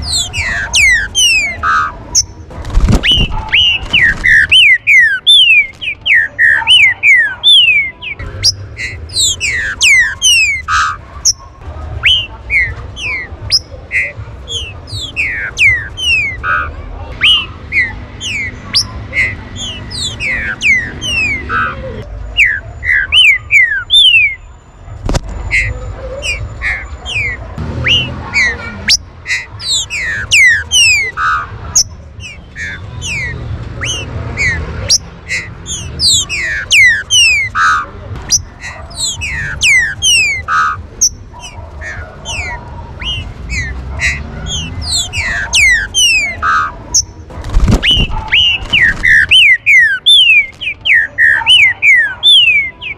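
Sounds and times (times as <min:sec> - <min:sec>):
birds whistling downward notes: 0:00.0 - 0:16.6, 0:17.2 - 0:21.8, 0:22.4 - 0:24.4, 0:25.5 - 0:52.9.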